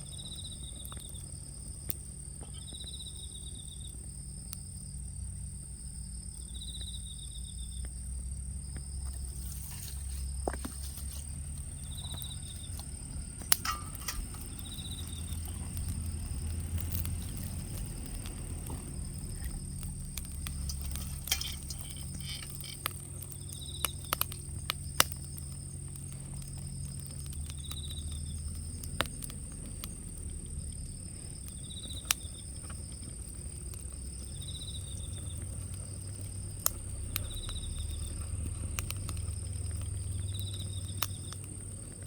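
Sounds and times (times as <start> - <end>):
insect chirps: 0.0 - 42.0
low steady rumble: 0.0 - 42.0
wood fire crackling and popping: 0.0 - 42.0.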